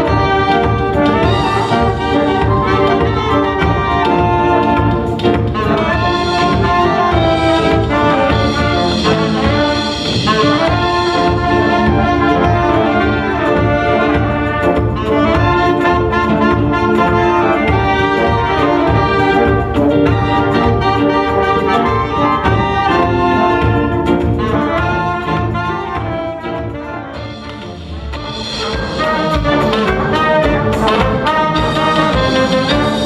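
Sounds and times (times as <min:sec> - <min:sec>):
drum kit: 0:00.0 - 0:33.0
saxophone and brass horns: 0:00.0 - 0:33.0.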